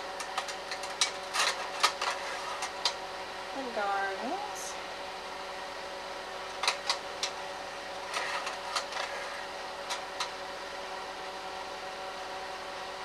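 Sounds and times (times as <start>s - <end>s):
cooling fan hum: 0.0s - 13.0s.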